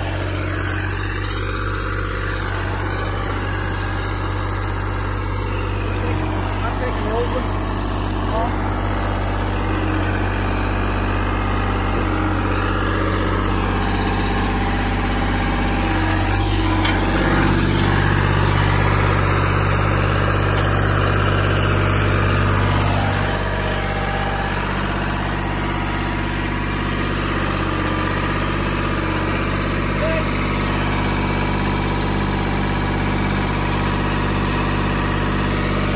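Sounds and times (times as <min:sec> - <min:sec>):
small gasoline engine running: 0:00.0 - 0:35.9.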